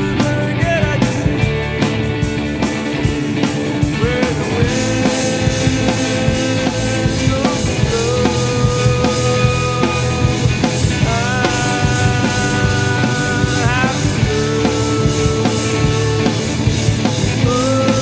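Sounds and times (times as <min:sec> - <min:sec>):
rock song with drums: 0:00.0 - 0:18.0.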